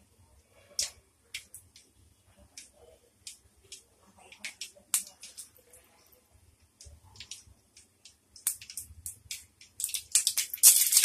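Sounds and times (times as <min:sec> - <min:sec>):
mustard seeds popping in hot oil: 0:00.7 - 0:05.7, 0:06.6 - 0:11.0.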